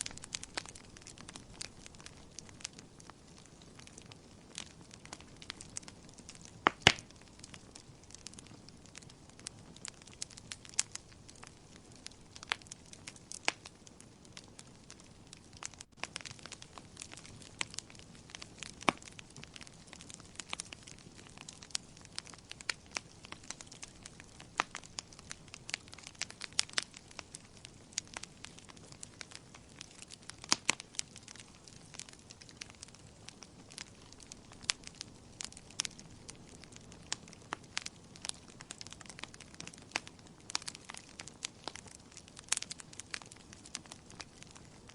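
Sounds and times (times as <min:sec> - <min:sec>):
fire hissing softly: 0:00.0 - 0:44.9
wood fire crackling and popping: 0:00.0 - 0:44.9.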